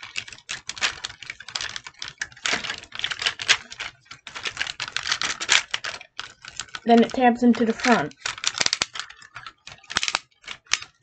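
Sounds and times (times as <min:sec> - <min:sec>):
plastic toy parts clicking: 0:00.0 - 0:11.0.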